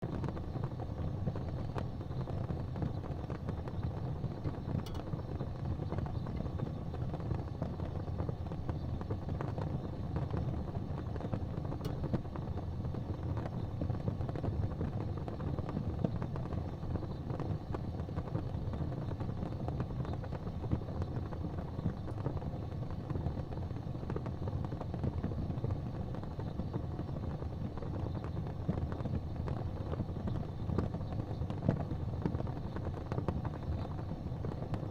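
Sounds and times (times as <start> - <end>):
faint fire crackles: 0.0 - 34.9
low rumble of flames: 0.0 - 34.9.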